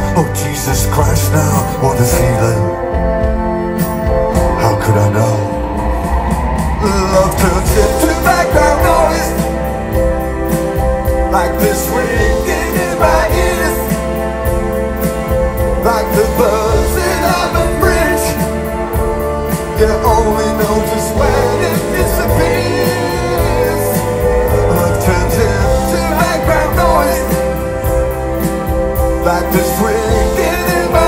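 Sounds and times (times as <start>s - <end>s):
band playing pop-rock song: 0.0s - 31.0s.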